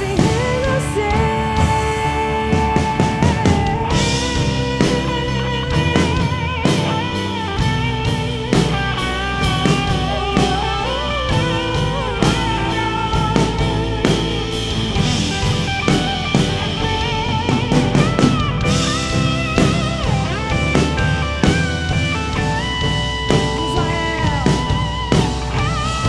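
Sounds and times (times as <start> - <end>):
drum kit beat: 0.0 - 26.0
guitar melodic line: 0.0 - 26.0.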